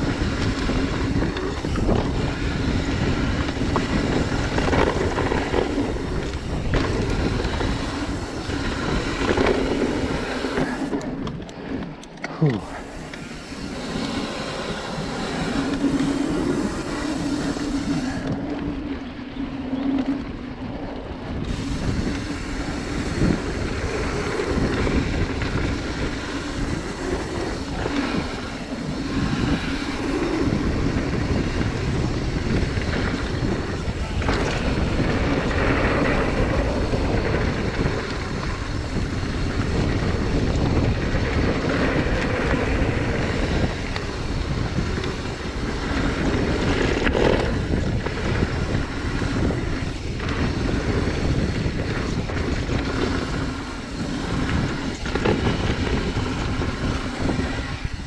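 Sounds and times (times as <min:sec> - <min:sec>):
bike rattles and knocks: 0:00.0 - 0:18.6, 0:21.4 - 0:58.0
bike tyre noise on dirt: 0:00.0 - 0:58.0
wind rush: 0:00.0 - 0:58.0.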